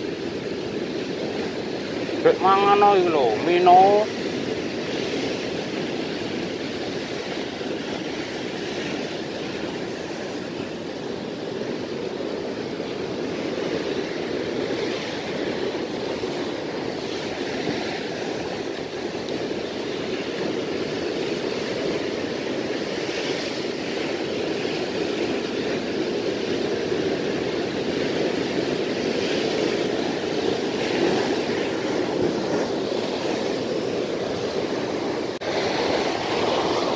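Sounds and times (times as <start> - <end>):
surf washing against rocks: 0.0 - 36.9.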